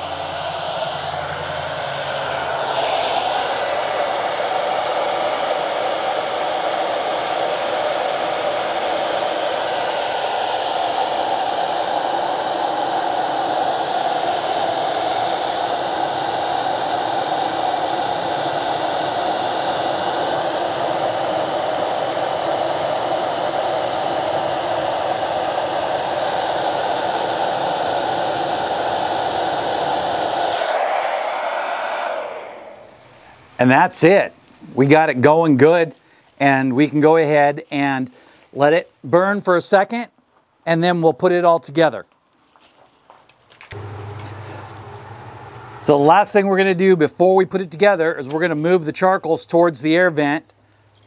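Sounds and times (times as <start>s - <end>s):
hair dryer blowing air: 0.0s - 35.8s, 43.6s - 50.4s.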